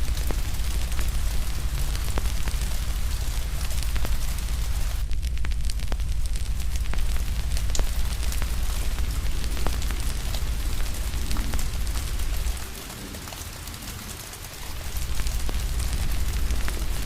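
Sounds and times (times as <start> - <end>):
deep rumble: 0.0 - 17.0
rain hissing: 0.0 - 17.0
wood fire crackling and popping: 0.0 - 17.0.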